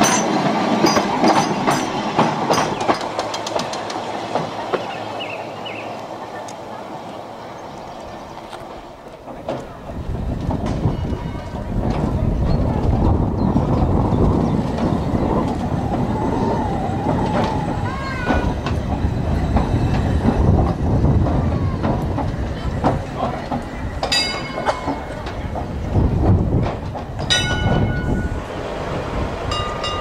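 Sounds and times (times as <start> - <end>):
tram rumbling: 0.0 - 30.0
tram wheels clattering over rails: 0.0 - 30.0.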